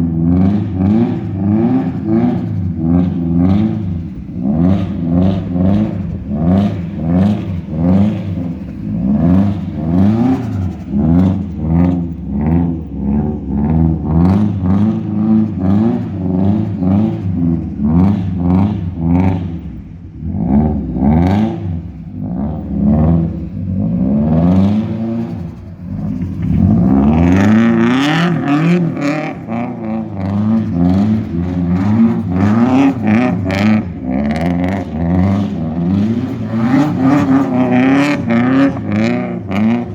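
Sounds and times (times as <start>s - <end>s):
car engine revving loudly: 0.0s - 39.9s.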